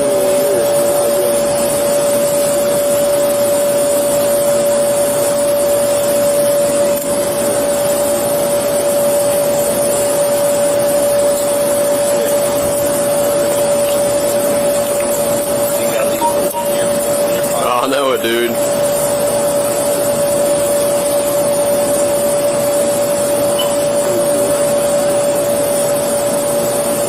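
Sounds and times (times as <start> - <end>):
machine drone with whining tone: 0.0 - 27.0.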